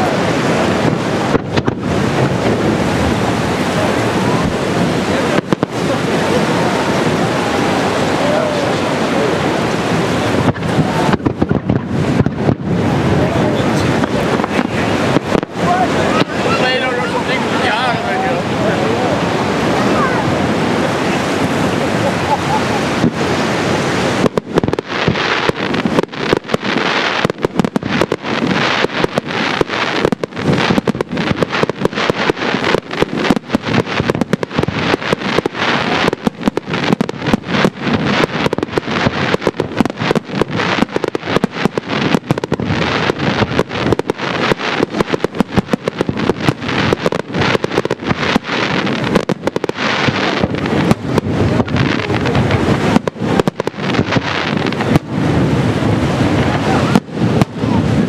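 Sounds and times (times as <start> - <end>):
fireworks bangs: 0.0 - 58.0
fireworks crackle: 0.0 - 58.0.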